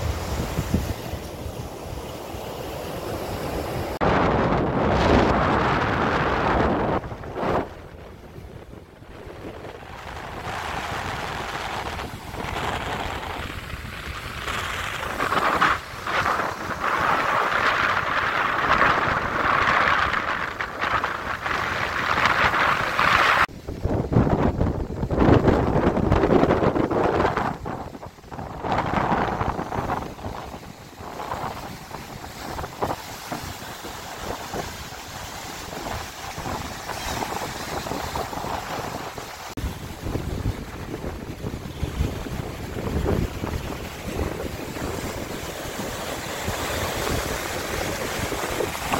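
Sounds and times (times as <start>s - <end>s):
waves breaking on rocky shore: 0.0s - 48.9s
wind buffeting microphone: 0.0s - 48.9s.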